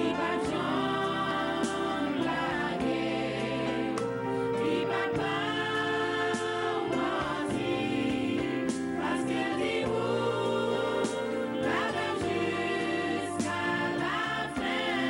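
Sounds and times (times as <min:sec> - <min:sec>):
instrumental accompaniment: 0:00.0 - 0:15.0
voices singing gospel: 0:00.0 - 0:15.0.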